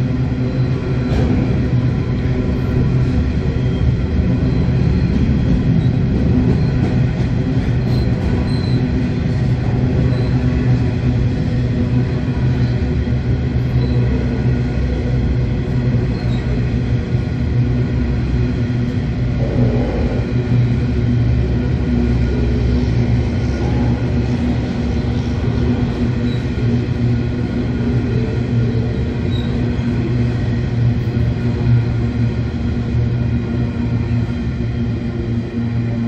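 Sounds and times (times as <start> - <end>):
diesel locomotive hum: 0.0 - 36.0.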